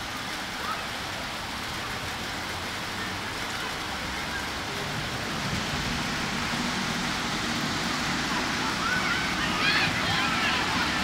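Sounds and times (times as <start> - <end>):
steady outdoor rushing hiss: 0.0 - 11.0
faint distant voices: 0.5 - 11.0.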